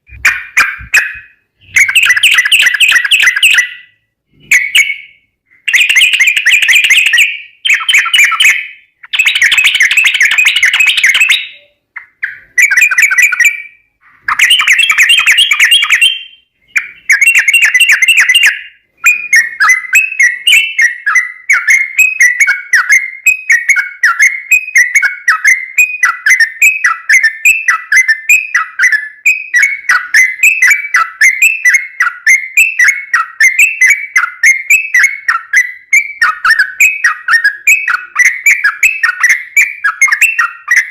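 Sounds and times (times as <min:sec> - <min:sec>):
bird singing loudly: 0:00.0 - 0:40.9.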